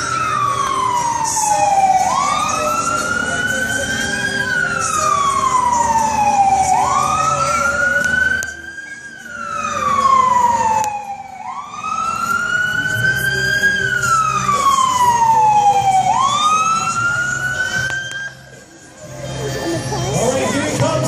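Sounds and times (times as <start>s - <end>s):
fire truck siren wailing: 0.0s - 18.6s.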